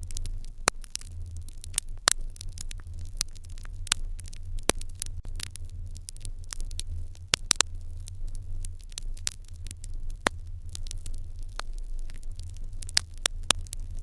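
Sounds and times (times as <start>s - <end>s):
low steady rumble: 0.0s - 14.0s
open fire crackling and popping: 0.0s - 14.0s.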